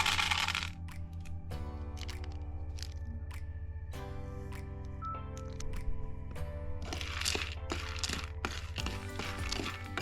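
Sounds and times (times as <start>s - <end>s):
background music with held tones: 0.0s - 10.0s.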